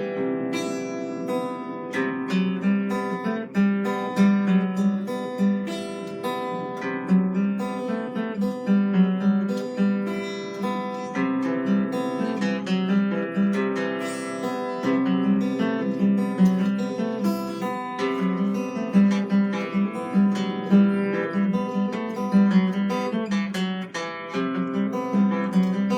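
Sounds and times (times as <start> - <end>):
acoustic guitar plucked notes: 0.0 - 25.9.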